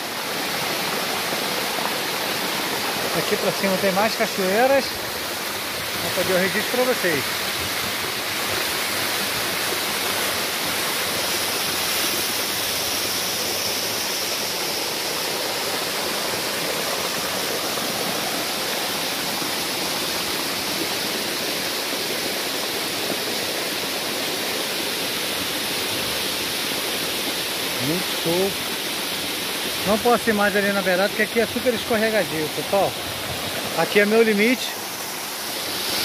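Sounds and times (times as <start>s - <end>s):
water rushing down rock: 0.0s - 36.0s.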